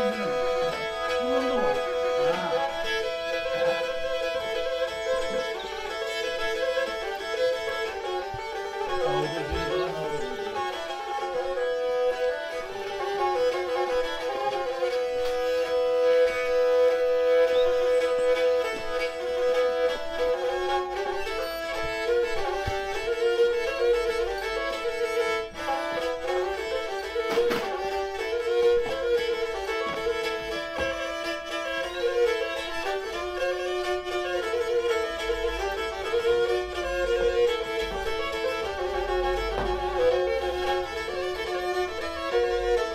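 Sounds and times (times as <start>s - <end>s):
bowed string folk tune over drone: 0.0s - 42.9s.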